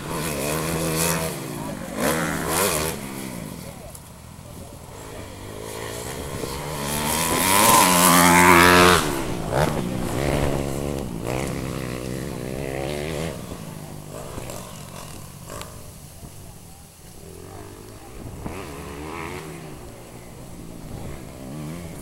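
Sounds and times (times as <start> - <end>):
motocross motorcycle engine revving: 0.0 - 22.0.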